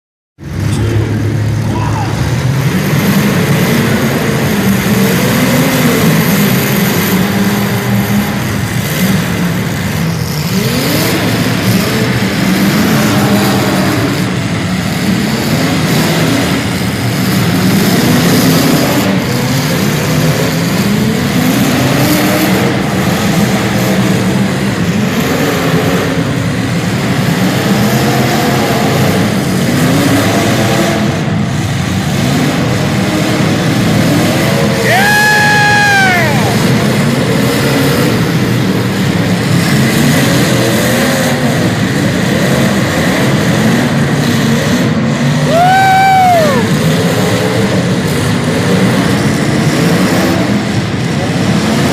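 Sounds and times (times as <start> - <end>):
vehicle engines revving: 0.4 - 51.9.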